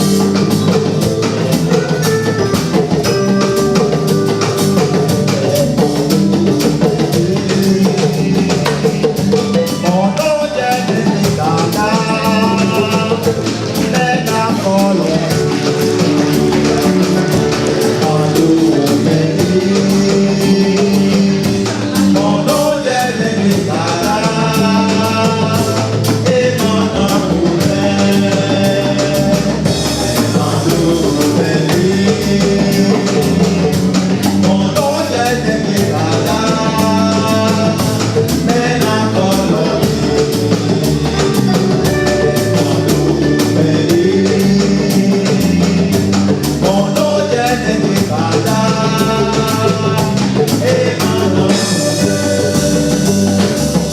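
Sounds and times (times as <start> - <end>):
singing over drums and guitar: 0.0 - 53.9.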